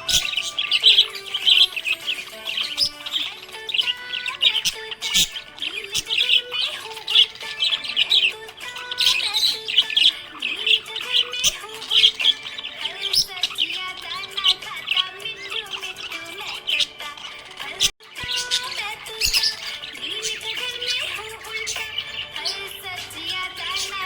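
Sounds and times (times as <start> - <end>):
background music: 0.0 - 24.0
budgerigar chirping and chattering: 0.0 - 24.0.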